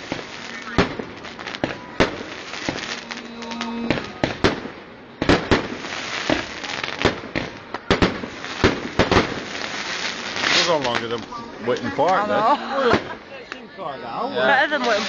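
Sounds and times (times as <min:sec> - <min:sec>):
fireworks bangs and crackles: 0:00.0 - 0:13.3, 0:14.5 - 0:15.0.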